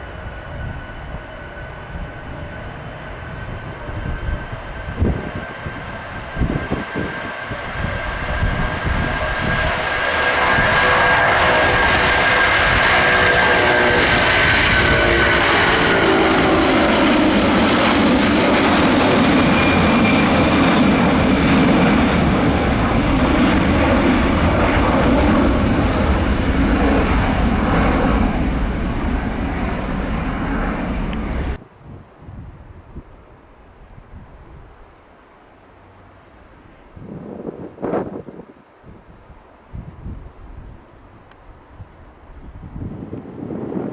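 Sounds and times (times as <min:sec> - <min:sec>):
jet engines roaring and whining: 0:00.0 - 0:31.6, 0:39.6 - 0:43.9.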